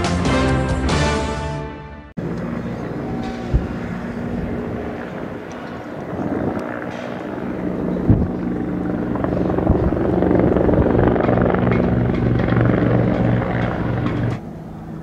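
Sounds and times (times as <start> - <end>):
helicopter rotor droning: 2.2 - 15.0.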